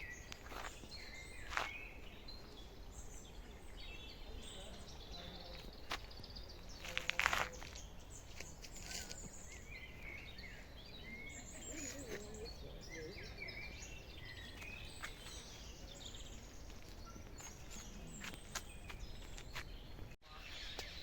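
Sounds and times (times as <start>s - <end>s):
low outdoor background noise: 0.0s - 21.0s
songbirds singing: 0.0s - 21.0s.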